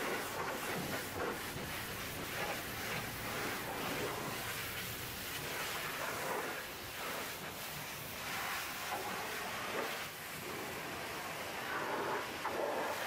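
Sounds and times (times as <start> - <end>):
pressure washer spraying on metal: 0.0 - 13.0.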